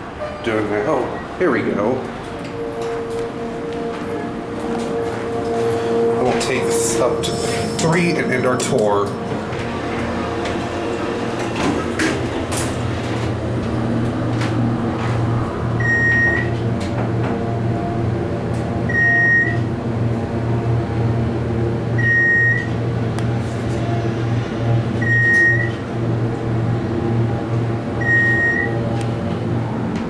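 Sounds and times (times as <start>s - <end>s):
elevator machinery hum: 0.0s - 30.0s.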